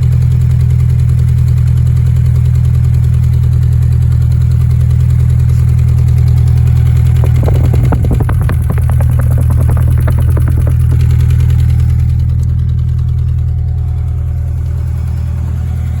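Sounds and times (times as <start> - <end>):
car exhaust idling: 0.4 - 16.0.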